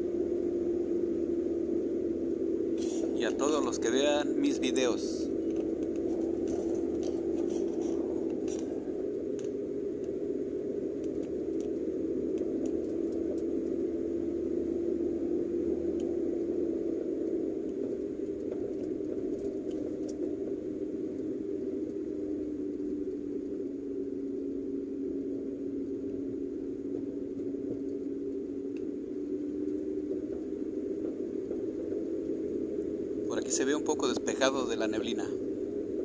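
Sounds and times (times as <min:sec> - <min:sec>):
car engine and tyre drone: 0:00.0 - 0:36.0.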